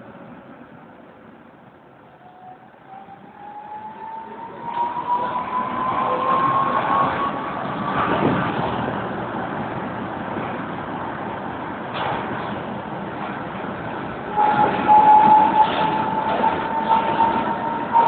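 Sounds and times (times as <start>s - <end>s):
tram motors whining: 2.0s - 18.0s.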